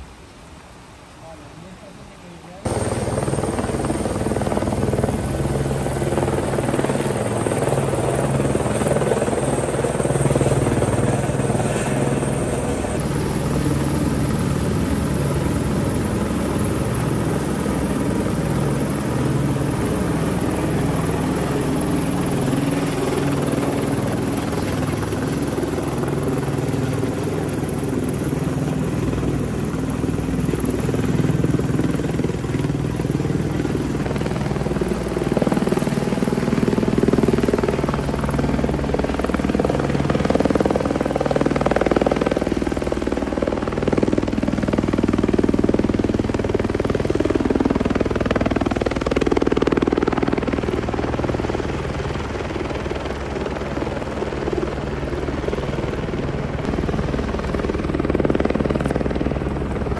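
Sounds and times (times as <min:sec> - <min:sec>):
helicopter rotor hovering: 0:02.5 - 0:59.9.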